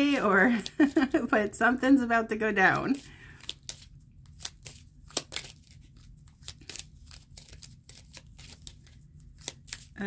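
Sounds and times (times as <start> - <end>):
cards being shuffled: 0.0 - 1.3, 2.8 - 10.0.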